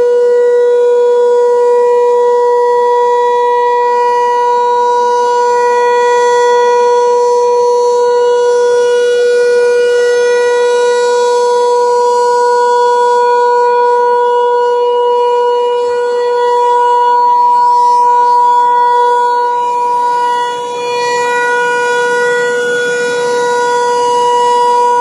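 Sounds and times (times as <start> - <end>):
steady tone warning siren: 0.0 - 25.0.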